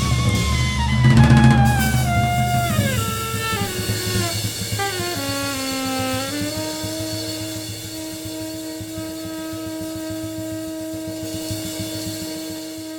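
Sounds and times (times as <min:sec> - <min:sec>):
drum beat: 0:00.0 - 0:12.9
saxophone: 0:00.0 - 0:12.9.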